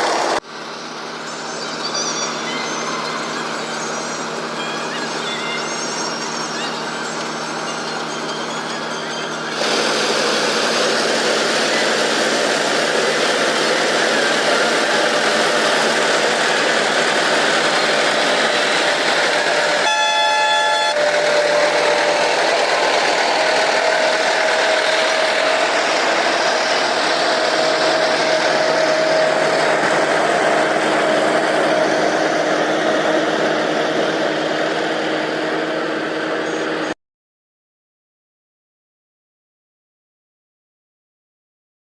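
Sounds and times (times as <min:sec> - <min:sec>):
combine harvester running: 0:00.0 - 0:37.0.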